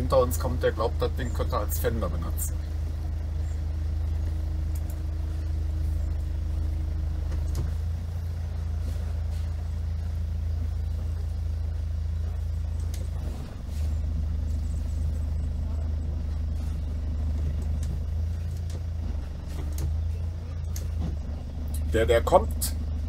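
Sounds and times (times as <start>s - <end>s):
motorboat engine droning: 0.0s - 23.0s.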